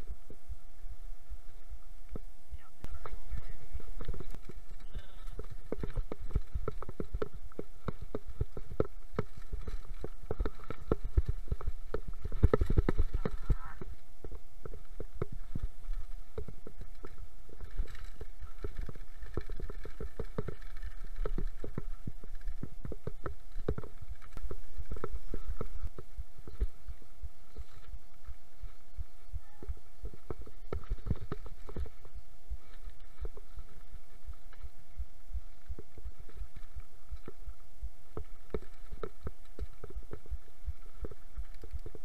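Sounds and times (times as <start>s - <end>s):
low rumble: 0.0s - 42.0s
mountain bike clattering: 3.0s - 42.0s.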